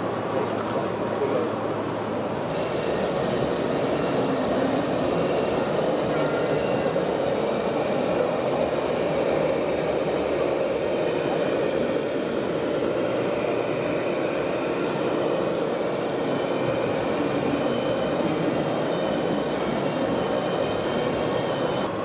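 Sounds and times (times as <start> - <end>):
busy hall noise: 0.0 - 22.0
model machines electric motors: 2.5 - 22.0.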